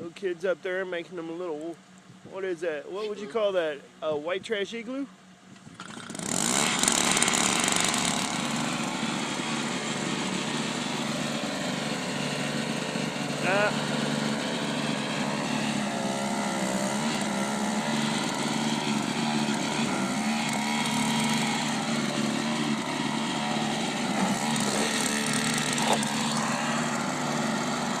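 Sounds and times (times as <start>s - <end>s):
snowblower engine running: 5.6s - 28.0s.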